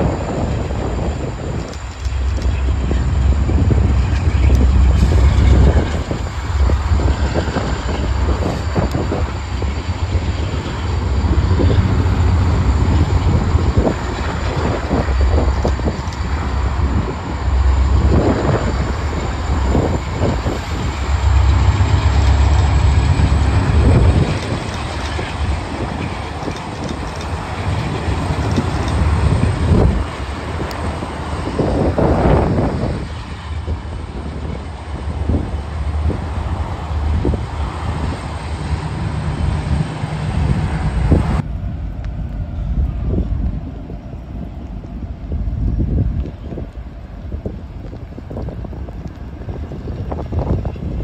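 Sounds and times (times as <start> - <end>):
freight train rumbling over bridge: 0.0 - 51.0
wheels clanking on rails: 0.0 - 51.0.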